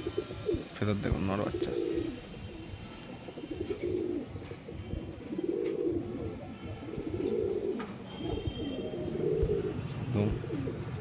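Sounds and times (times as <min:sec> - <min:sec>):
pigeons cooing: 0:00.0 - 0:00.7, 0:01.4 - 0:11.0.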